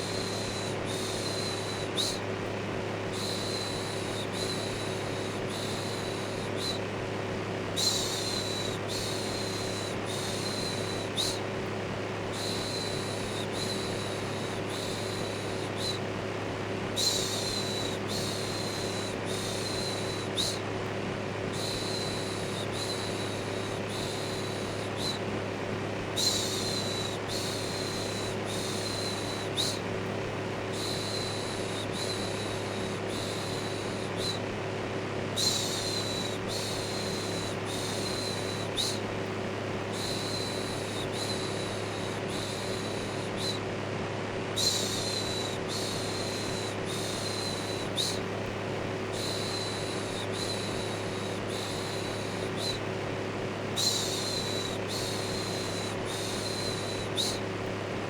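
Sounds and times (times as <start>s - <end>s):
electric fan humming: 0.0s - 58.0s.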